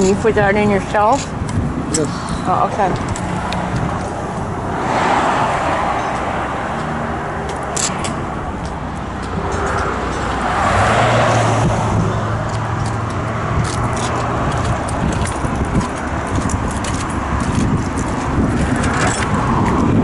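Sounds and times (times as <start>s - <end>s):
vehicles passing by: 0.0s - 20.0s.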